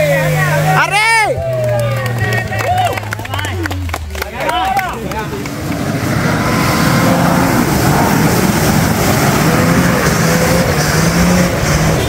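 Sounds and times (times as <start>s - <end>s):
engine running at high revs: 0.0s - 12.0s.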